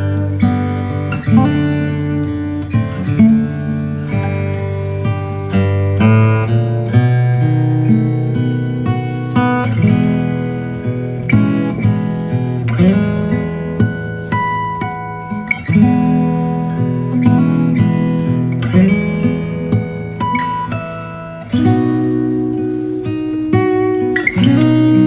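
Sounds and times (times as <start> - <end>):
acoustic guitar strummed and picked: 0.0 - 25.0.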